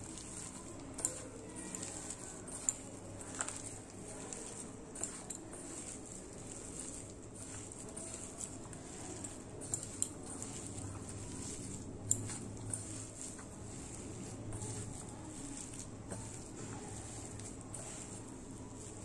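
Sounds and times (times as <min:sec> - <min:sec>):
hand squelching moist mixture: 0:00.0 - 0:19.0.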